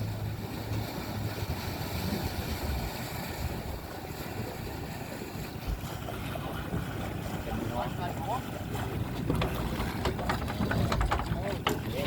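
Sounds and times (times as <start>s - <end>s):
boat engine idling: 0.0s - 12.0s
wind buffeting microphone: 0.0s - 12.0s.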